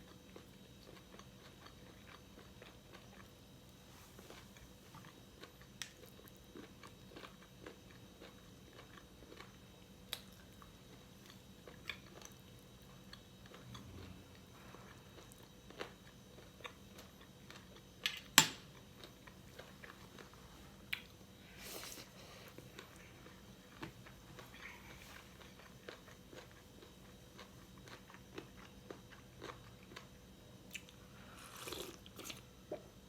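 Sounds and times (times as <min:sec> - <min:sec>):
chewing and biting mouth sounds: 0:00.0 - 0:03.4, 0:04.2 - 0:18.0, 0:21.8 - 0:32.4.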